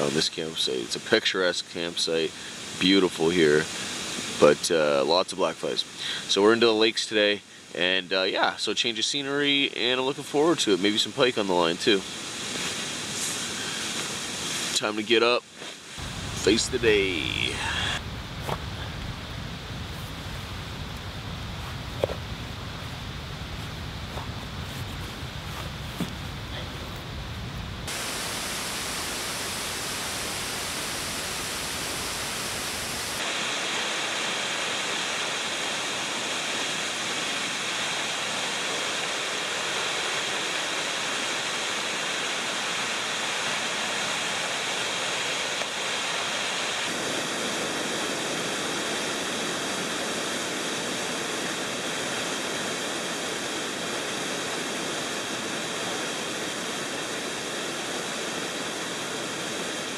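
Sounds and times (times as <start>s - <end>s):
waterfall and river rapids rushing: 0.0s - 8.4s, 9.1s - 18.0s, 27.9s - 59.9s.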